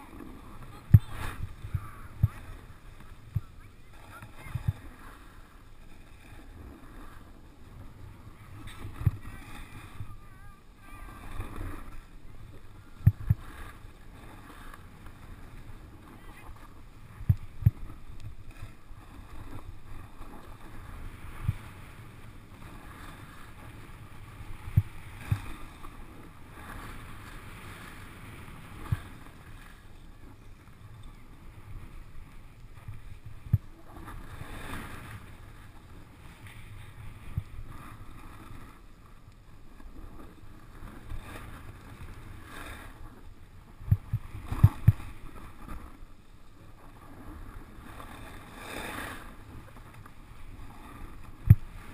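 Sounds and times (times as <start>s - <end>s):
snowboard sliding on snow: 0.0s - 51.9s.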